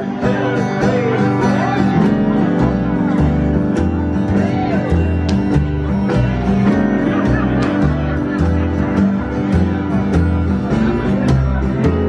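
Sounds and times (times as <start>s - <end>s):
strummed acoustic guitar: 0.0s - 12.0s
upright bass: 0.0s - 12.0s.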